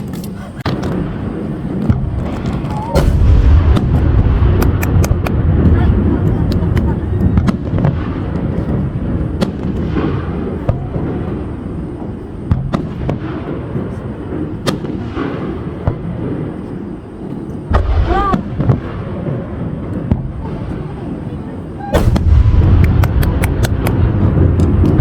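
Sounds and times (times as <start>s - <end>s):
fireworks bangs and cracks: 0.0s - 25.0s
low rumble of booms: 0.6s - 25.0s.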